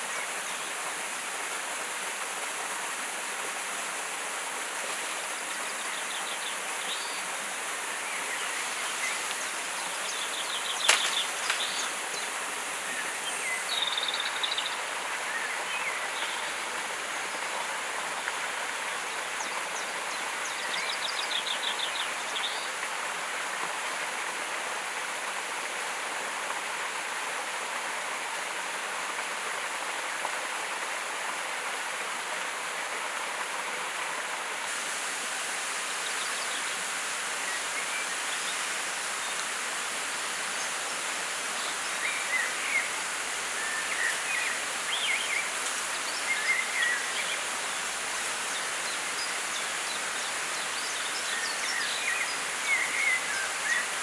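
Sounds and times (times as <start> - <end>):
flowing river water: 0.0 - 54.0.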